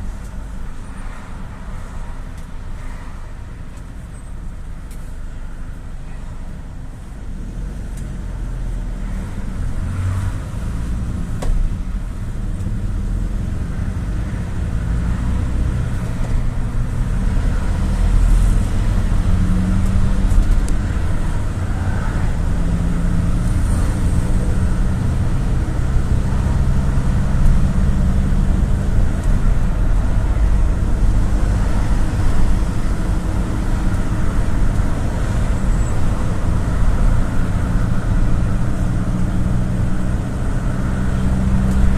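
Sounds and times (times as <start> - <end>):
diesel bus engine: 0.0 - 41.9
tyre and road rumble: 0.0 - 41.9.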